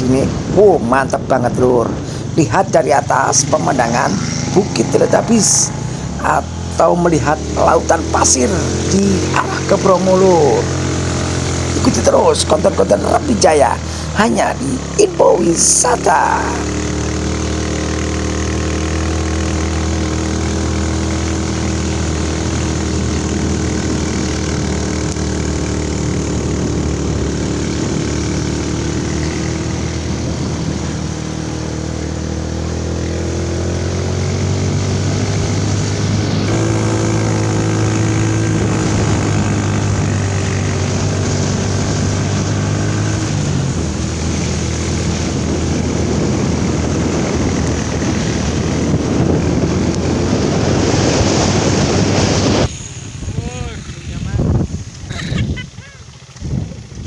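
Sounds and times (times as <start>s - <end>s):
small motorcycle engine running: 0.1s - 57.0s.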